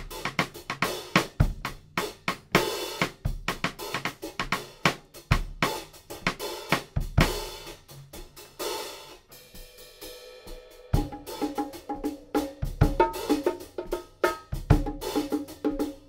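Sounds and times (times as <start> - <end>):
drum kit groove: 0.0 - 16.0.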